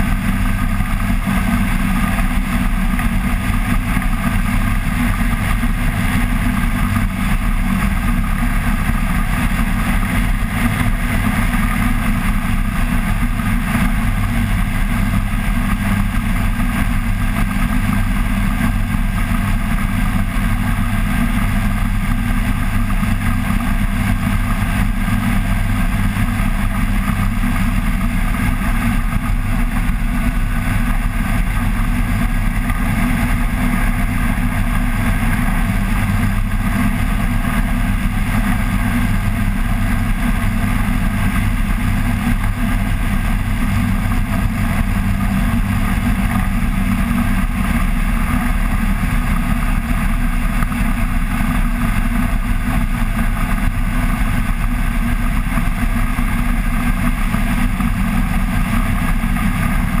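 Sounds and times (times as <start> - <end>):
microlight engine droning: 0.0 - 60.0.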